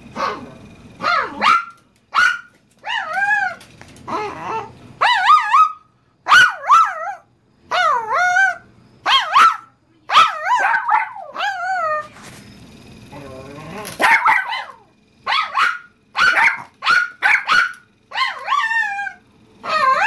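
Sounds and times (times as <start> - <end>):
small dog barking and whining: 0.1 - 12.2, 13.6 - 20.0.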